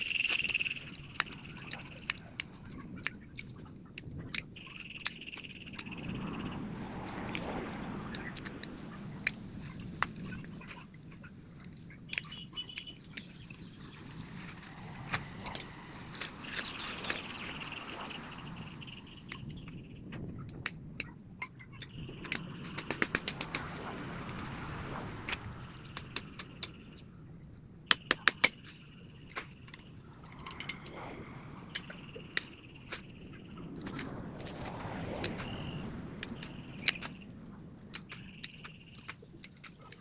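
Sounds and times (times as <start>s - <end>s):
bird chirping: 0.0s - 6.8s, 7.4s - 34.3s, 35.2s - 40.0s
sharp irregular clicks and snaps: 0.0s - 40.0s.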